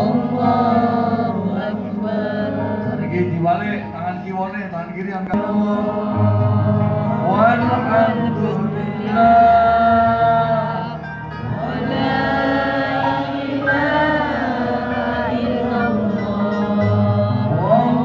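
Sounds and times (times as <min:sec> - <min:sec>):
devotional singing: 0:00.0 - 0:04.3, 0:05.0 - 0:18.0
musical accompaniment: 0:00.0 - 0:18.0.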